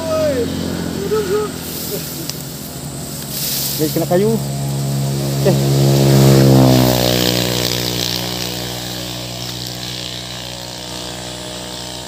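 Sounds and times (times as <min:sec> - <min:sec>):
motor engine droning: 0:00.0 - 0:12.0.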